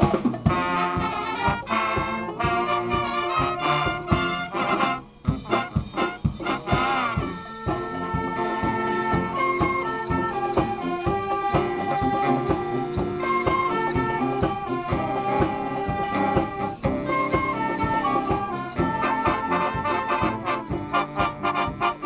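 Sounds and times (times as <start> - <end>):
brass music over steady beat: 0.0 - 22.0.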